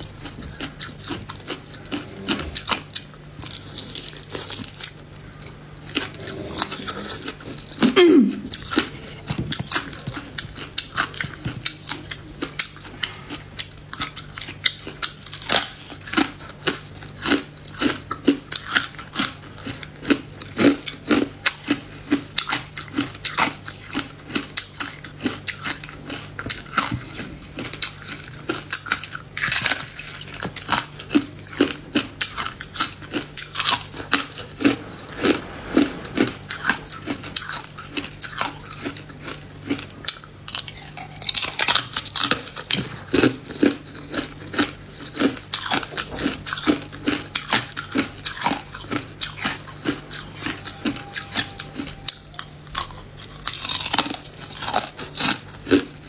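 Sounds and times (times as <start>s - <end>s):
faint low hum: 0.0s - 56.0s
ice crunching being chewed: 0.0s - 56.0s.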